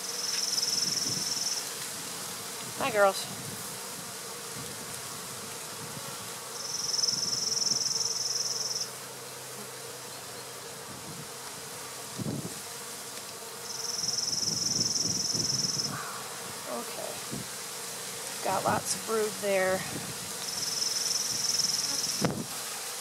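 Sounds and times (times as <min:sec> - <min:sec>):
high rasping buzz: 0:00.0 - 0:23.0
honeybees humming: 0:00.0 - 0:23.0.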